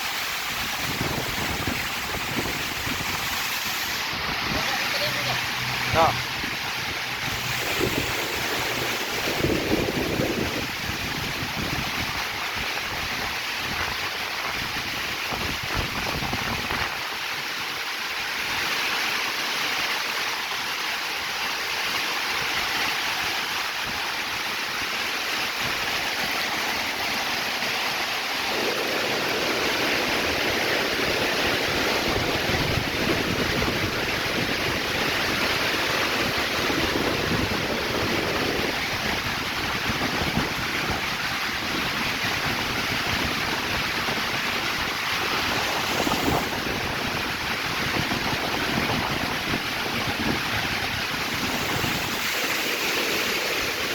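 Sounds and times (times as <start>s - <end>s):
wind gusts on microphone: 0.0s - 17.2s, 23.6s - 53.9s
heavy rain pouring: 0.0s - 53.9s.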